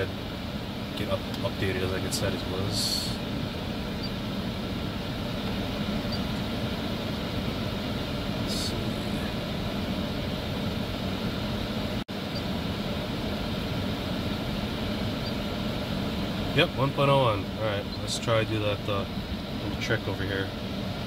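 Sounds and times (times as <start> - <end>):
car cabin hum and hiss: 0.0 - 21.0.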